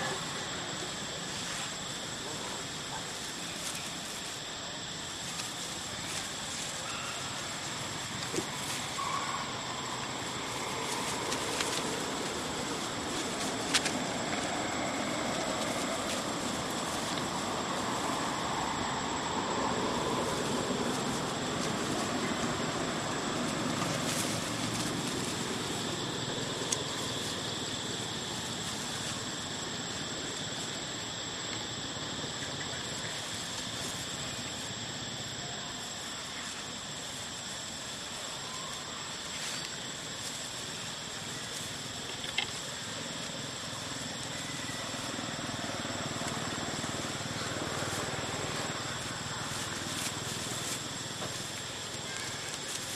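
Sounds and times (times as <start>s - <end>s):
outdoor background rumble: 0.0s - 52.9s.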